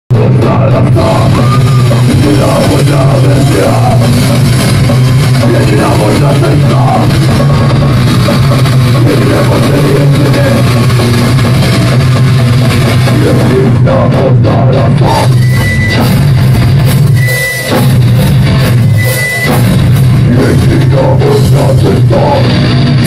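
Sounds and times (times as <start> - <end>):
bass guitar: 0.0 - 23.0
drum kit: 0.1 - 23.0
electric guitars: 0.1 - 23.0.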